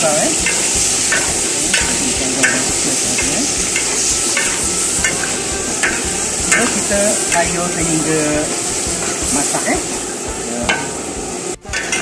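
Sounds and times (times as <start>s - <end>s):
metal spatula scraping wok: 0.0s - 12.0s
prawns sizzling in hot oil: 0.0s - 12.0s.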